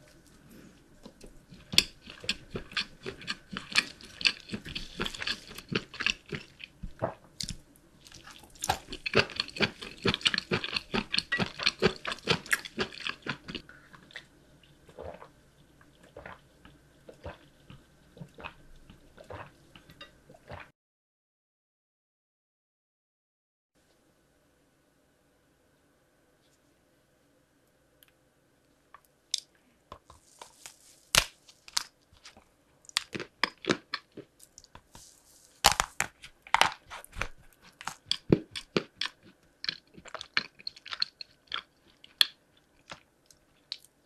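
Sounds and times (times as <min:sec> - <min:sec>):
person chewing crunchy food: 0:00.0 - 0:20.7, 0:29.4 - 0:44.0.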